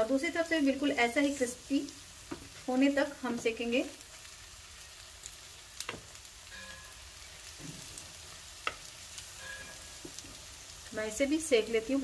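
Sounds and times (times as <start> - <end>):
cutlets sizzling in oil: 0.0 - 12.0.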